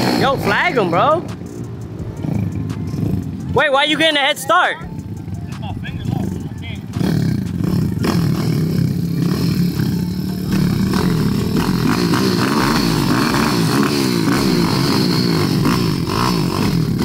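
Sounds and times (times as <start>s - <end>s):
small motorbike engines revving: 0.0s - 17.0s.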